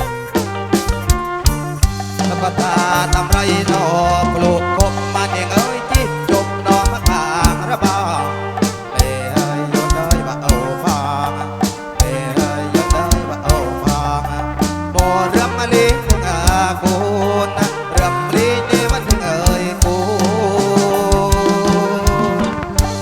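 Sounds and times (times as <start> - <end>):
bass notes: 0.0 - 23.0
live folk music through pa: 0.0 - 23.0
quick steady drumbeat: 0.0 - 23.0
wavering lead melody: 0.0 - 23.0.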